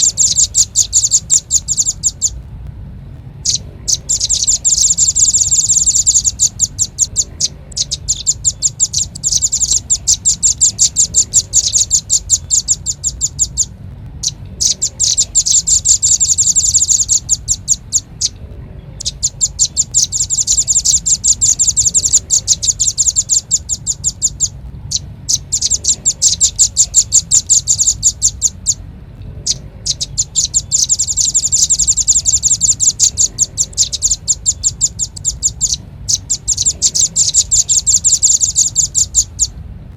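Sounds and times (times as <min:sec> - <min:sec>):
bird rapid high chipping call: 0:00.0 - 0:02.4, 0:03.4 - 0:39.6.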